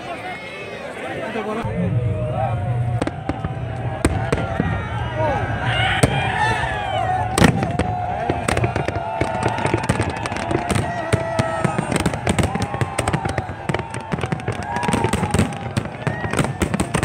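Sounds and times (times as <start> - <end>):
firework bangs and cracks: 2.9 - 17.0.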